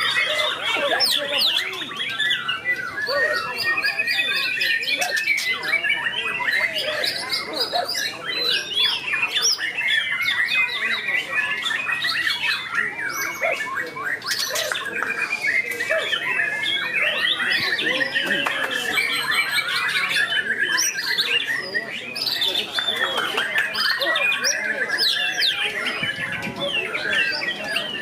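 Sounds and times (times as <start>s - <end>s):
birds singing overlapping whistles: 0.0s - 28.0s.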